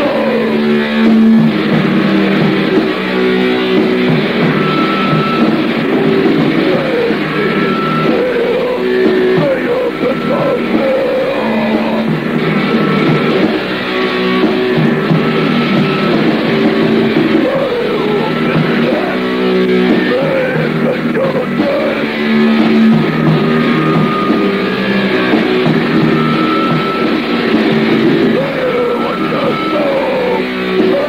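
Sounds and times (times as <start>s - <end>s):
muffled heavy metal music: 0.0s - 31.0s.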